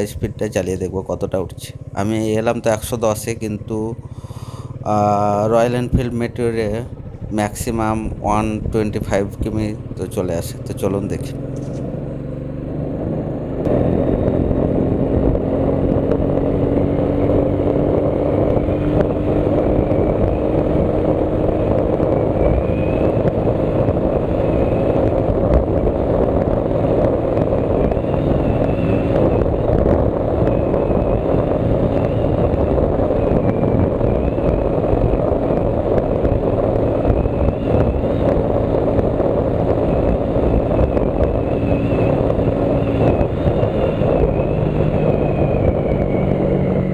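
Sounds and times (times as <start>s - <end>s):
motorcycle engine at full throttle: 0.0s - 46.9s
wind rush on microphone: 0.0s - 46.9s.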